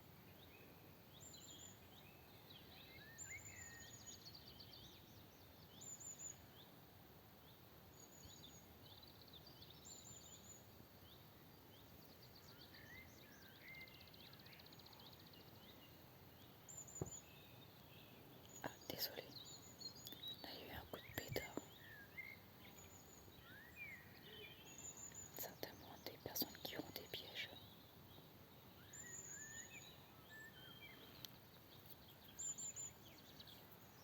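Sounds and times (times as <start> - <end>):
faint birdsong: 0.0 - 34.0
outdoor background hiss: 0.0 - 34.0.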